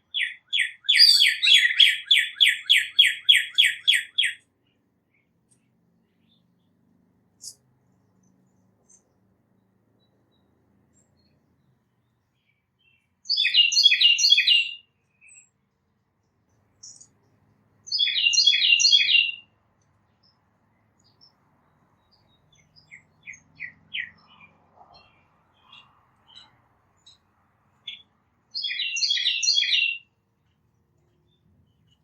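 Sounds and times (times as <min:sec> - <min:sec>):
songbird singing: 0:00.0 - 0:32.0.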